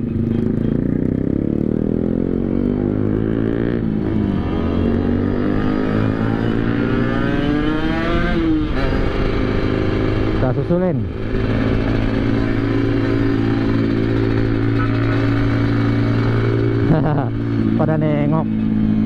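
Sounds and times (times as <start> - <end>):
two-stroke motorcycle engine accelerating: 0.0 - 19.0.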